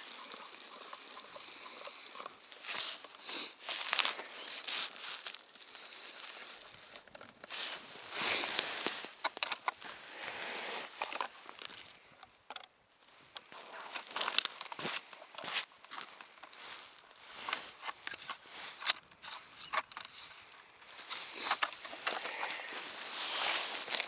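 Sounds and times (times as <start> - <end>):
rustling and crunching: 0.0 - 24.0.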